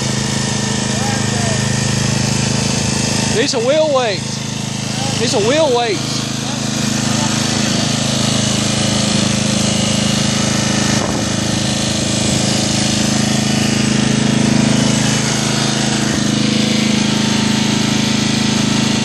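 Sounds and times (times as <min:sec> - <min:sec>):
riding mower engine running: 0:00.0 - 0:19.0.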